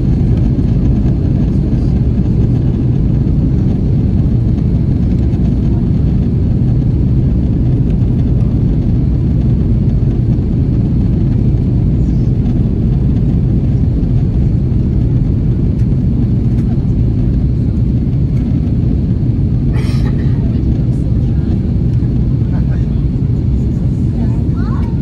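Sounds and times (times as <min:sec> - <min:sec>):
airliner cabin engine roar: 0:00.0 - 0:25.0.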